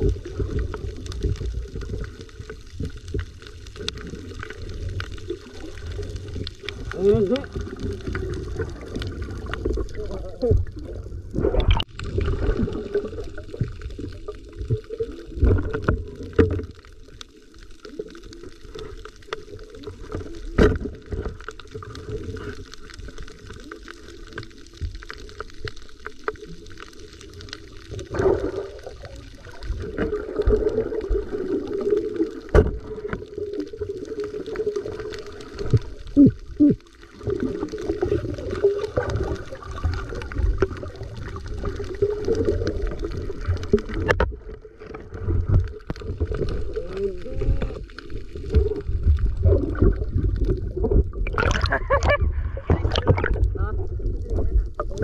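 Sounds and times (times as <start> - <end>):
muffled underwater noise: 0.0 - 55.0.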